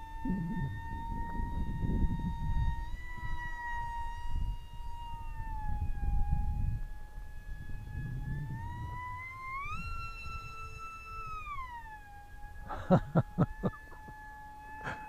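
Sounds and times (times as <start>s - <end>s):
electric motor and propeller whine: 0.0s - 15.0s
wind rumble on microphone: 0.0s - 15.0s.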